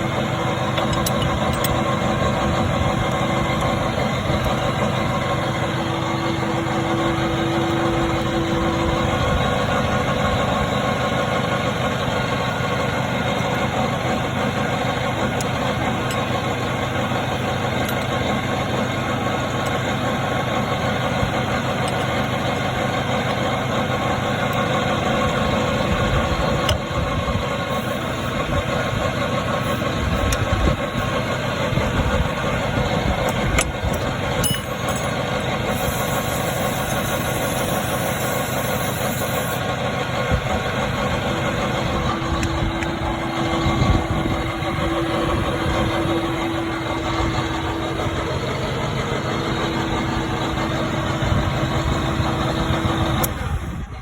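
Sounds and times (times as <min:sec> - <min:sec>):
forklift engine idling: 0:00.0 - 0:54.0.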